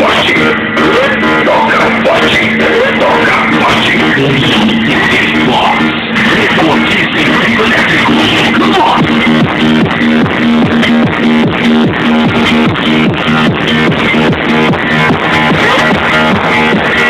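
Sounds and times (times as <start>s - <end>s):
rock music over car stereo: 0.0s - 17.0s.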